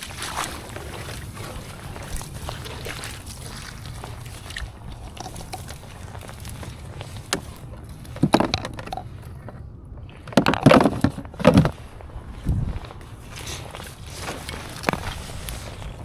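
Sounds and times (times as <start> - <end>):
footsteps wading through water: 0.0 - 10.3, 11.3 - 16.0
wind rumble on microphone: 0.0 - 16.0.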